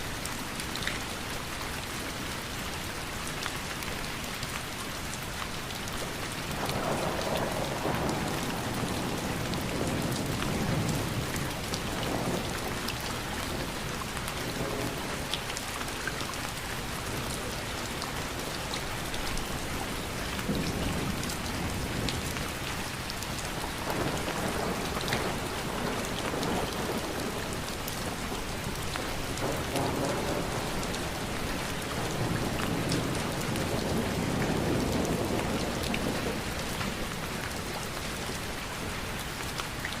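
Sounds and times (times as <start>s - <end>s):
steady rain pattering: 0.0s - 40.0s.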